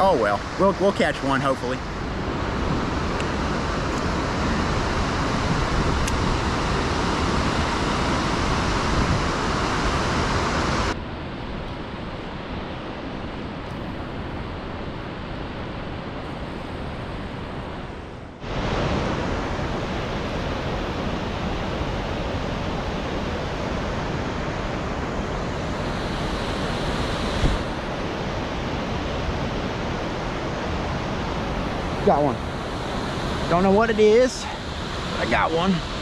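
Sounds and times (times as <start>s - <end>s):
water rushing below a dam: 0.0s - 36.0s
wind on microphone: 1.8s - 36.0s.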